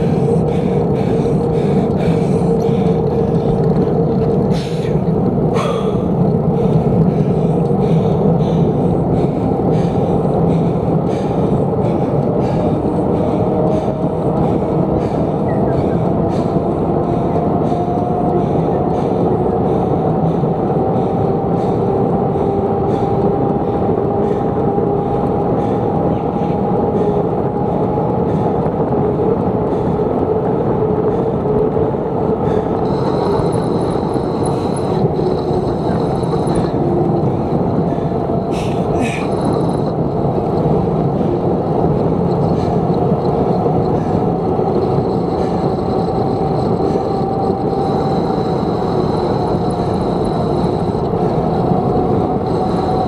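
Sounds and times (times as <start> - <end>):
faint wandering hum: 0.0 - 53.0
wind and road noise: 0.0 - 53.0.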